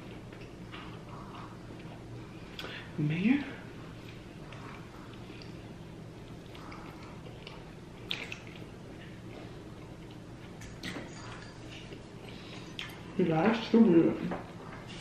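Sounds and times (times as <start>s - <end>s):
person chewing wetly: 0.0s - 3.0s, 3.6s - 13.2s
low steady hum: 0.0s - 15.0s.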